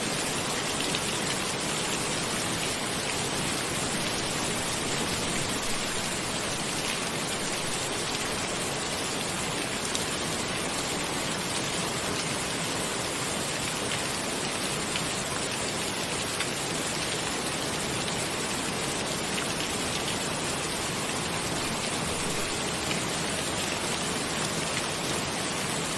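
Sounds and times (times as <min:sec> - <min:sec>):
steady rain hissing: 0:00.0 - 0:25.9.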